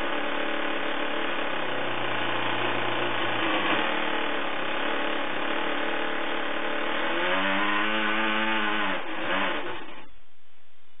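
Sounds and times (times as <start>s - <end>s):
model engine running and sputtering: 0.0s - 10.1s.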